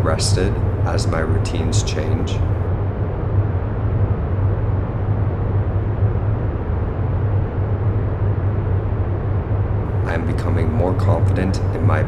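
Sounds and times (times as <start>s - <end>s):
steady rumbling with low hum: 0.0s - 12.0s.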